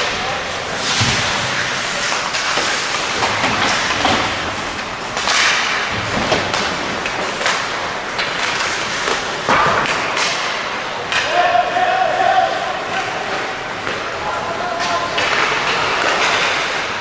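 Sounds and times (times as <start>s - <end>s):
arena noise: 0.0s - 17.0s
skates scraping ice: 0.0s - 17.0s
sticks and puck clacking: 0.0s - 17.0s.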